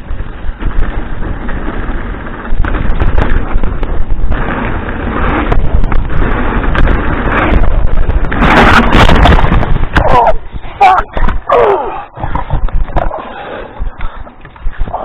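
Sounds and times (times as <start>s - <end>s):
bike rumbling over rough ground: 0.0s - 15.0s.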